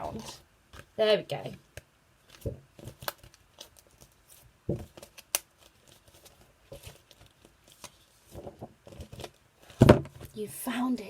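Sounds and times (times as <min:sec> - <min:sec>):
paper flashcards rustling: 0:00.0 - 0:01.0, 0:02.2 - 0:10.4.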